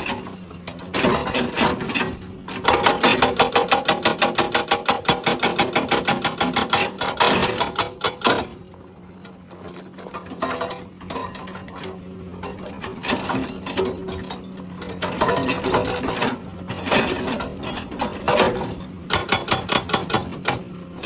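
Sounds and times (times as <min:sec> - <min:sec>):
excavator engine running: 0:00.0 - 0:21.0
hydraulic breaker hammering rock: 0:00.0 - 0:21.0.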